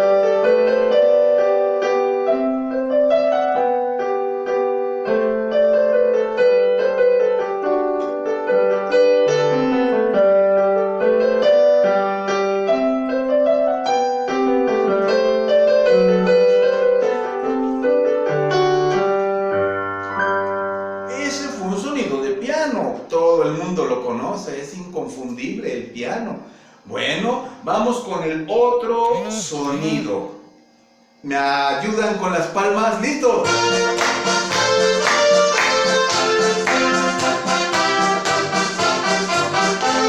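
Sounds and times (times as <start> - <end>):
piano melody: 0.0 - 25.4, 27.2 - 40.0.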